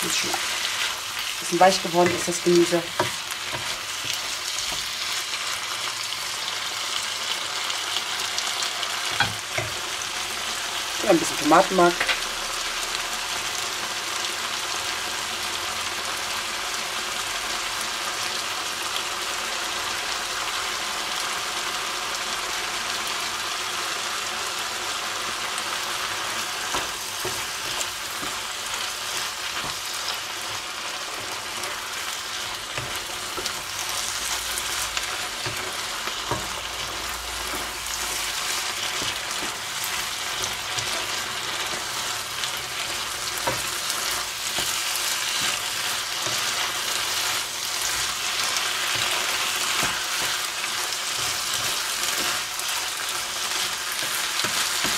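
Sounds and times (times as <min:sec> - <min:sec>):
vegetables sizzling in a wok: 0:00.0 - 0:54.9.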